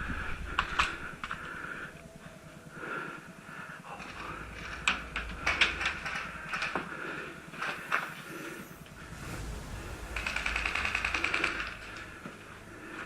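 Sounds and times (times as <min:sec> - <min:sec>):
heavy breathing: 0:00.0 - 0:13.0.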